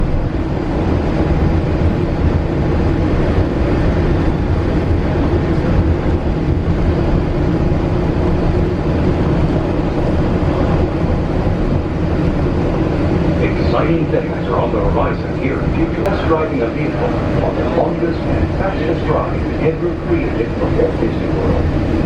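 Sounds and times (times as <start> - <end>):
constant low hum: 0.0 - 22.0
monorail rumbling at speed: 0.0 - 22.0.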